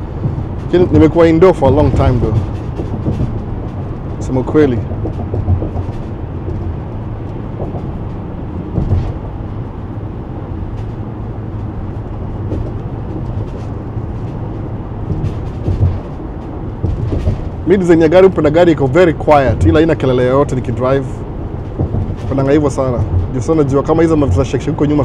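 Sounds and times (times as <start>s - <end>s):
engine and road rumble: 0.0s - 25.0s
loose things rattling: 0.0s - 25.0s.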